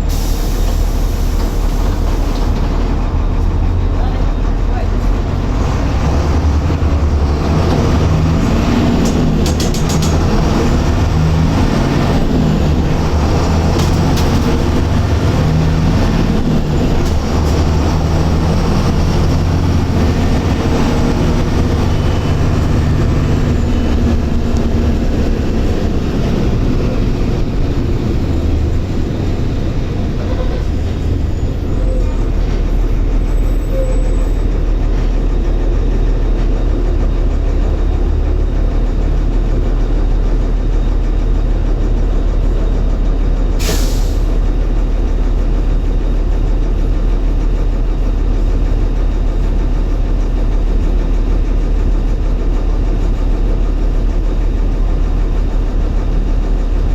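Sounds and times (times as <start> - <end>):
bus diesel engine running: 0.0 - 56.9.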